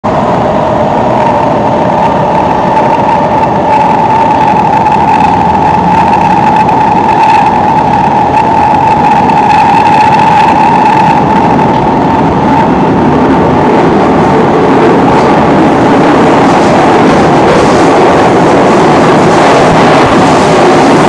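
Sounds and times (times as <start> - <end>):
high-pitched train whine: 0.0 - 21.0
train wheels rumbling on rail: 0.0 - 21.0.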